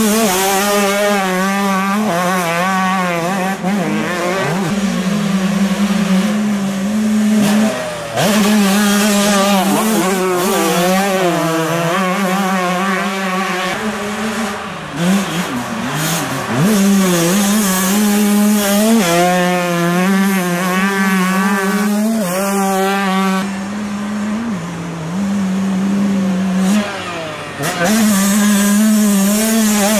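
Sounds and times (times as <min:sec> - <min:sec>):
motocross bike engines revving: 0:00.0 - 0:29.9.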